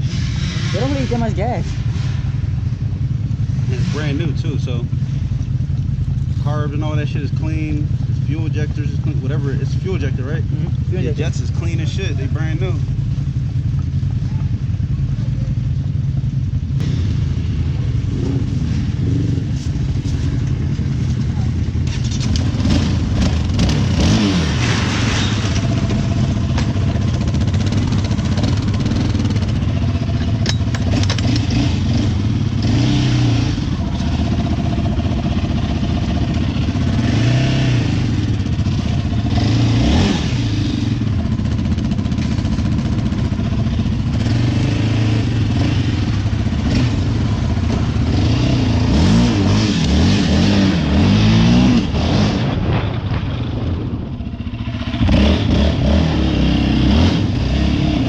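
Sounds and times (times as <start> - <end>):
off-road vehicle engines revving: 0.0 - 58.0.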